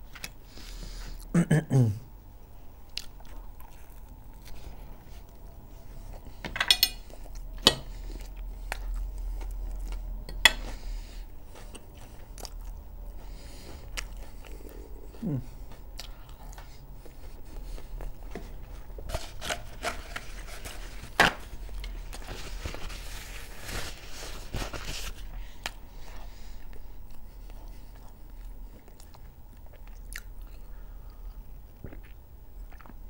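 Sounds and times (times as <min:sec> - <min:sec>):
person chewing food: 0:02.8 - 0:23.6, 0:25.1 - 0:33.0.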